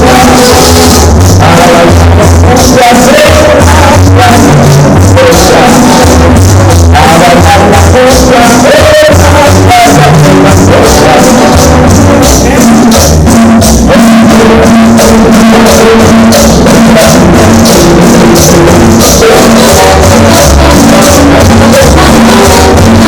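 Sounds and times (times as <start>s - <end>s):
loud music with steady beat: 0.0s - 23.0s.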